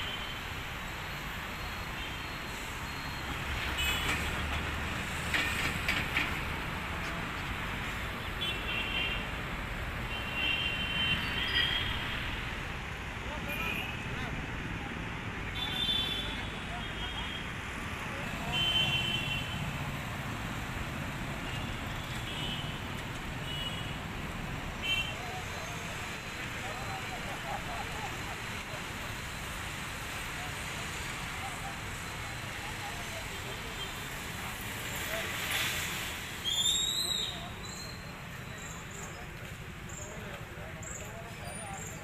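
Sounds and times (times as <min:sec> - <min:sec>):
low traffic rumble: 0:00.0 - 0:42.0.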